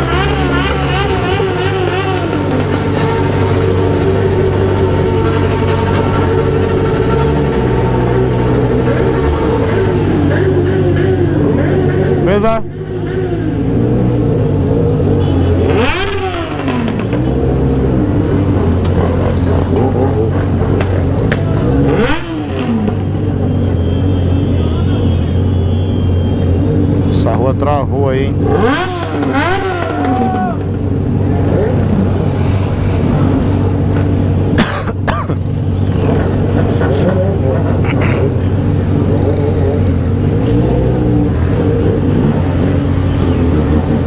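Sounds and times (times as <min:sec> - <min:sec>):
motorcycle engine revving: 0:00.0 - 0:44.0
motorcycle engines idling: 0:00.0 - 0:44.0.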